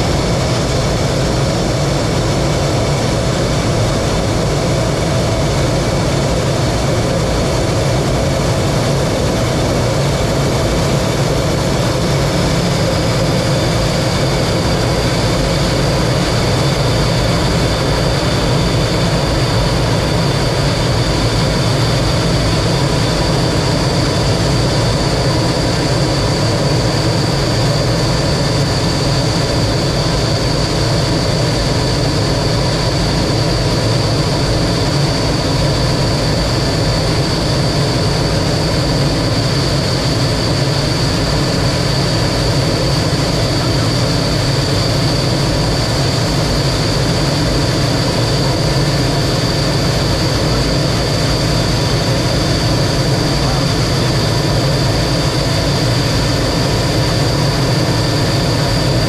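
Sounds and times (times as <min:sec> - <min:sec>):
jet engine running: 0:00.0 - 0:59.0.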